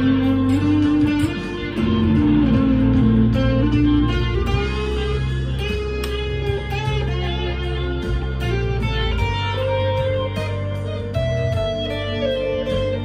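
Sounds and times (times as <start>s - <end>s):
overdriven electric guitar notes: 0.0s - 13.0s.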